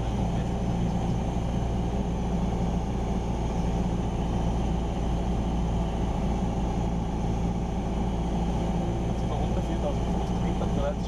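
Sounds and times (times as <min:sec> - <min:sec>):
airplane engine droning: 0:00.0 - 0:11.0.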